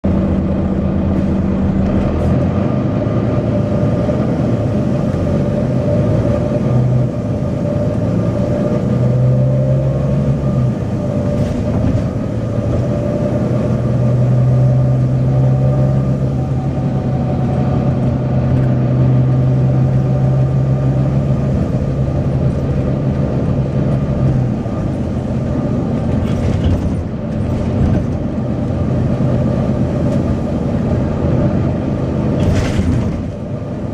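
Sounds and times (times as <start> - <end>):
bus diesel engine running: 0.0 - 33.9.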